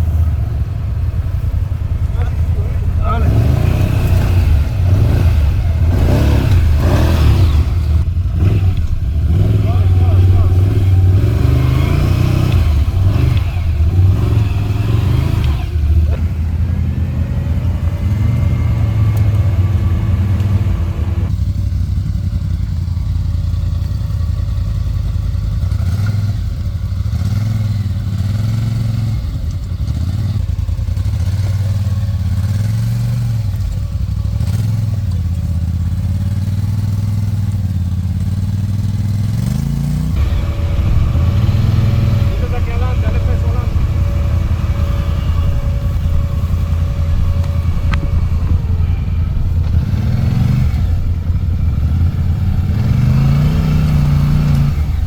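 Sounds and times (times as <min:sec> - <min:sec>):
atv engine revving under load: 0:00.0 - 0:55.0.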